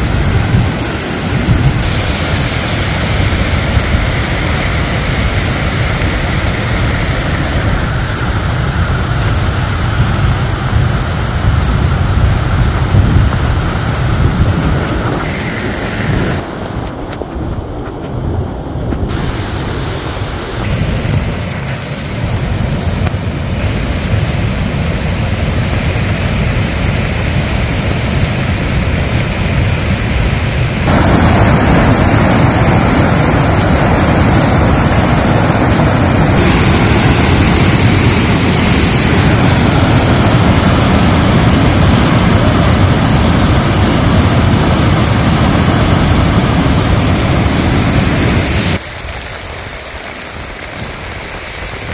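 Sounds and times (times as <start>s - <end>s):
wind buffeting microphone: 0.0s - 49.2s
floodwater rushing: 0.0s - 51.9s.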